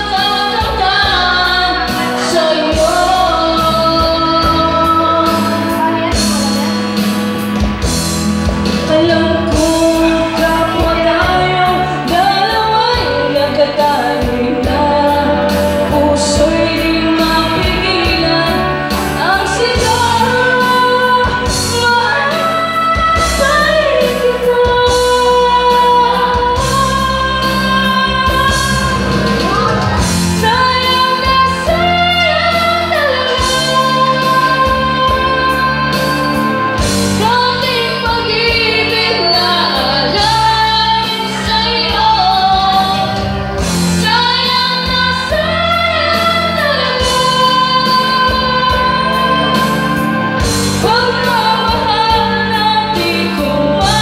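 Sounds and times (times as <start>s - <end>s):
karaoke backing track: 0.0s - 54.0s
person singing into microphone: 0.0s - 54.0s.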